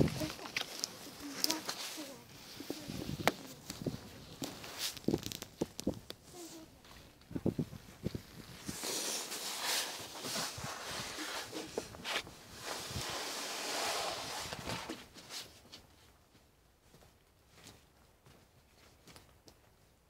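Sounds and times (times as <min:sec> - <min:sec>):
footsteps in dry grass: 0:00.0 - 0:12.7, 0:15.1 - 0:20.0
rustling undergrowth: 0:00.0 - 0:19.4.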